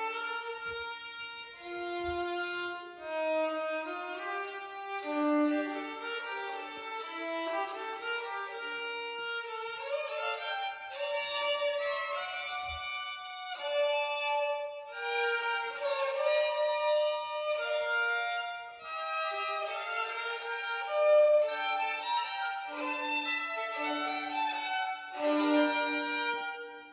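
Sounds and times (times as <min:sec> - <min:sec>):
violin playing bowed notes: 0:00.0 - 0:26.9.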